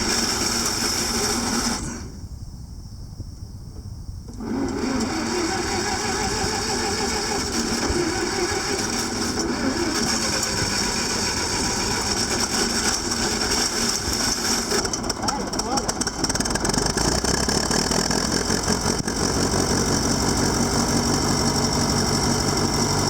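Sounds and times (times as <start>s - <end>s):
engine starting and running: 0.0s - 2.3s, 4.3s - 23.0s.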